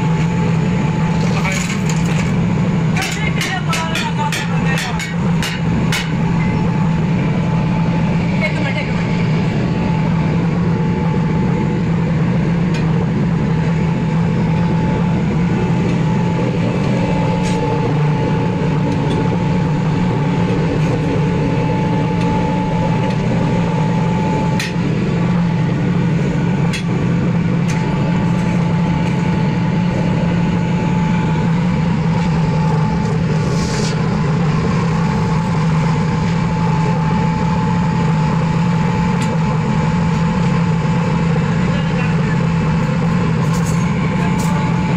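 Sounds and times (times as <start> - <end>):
electric air blower drone: 0.0 - 44.9
high whine: 0.0 - 44.9.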